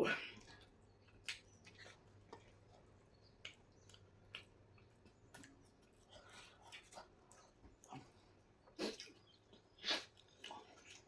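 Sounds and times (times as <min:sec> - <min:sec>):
soft chewing: 0:00.2 - 0:11.0.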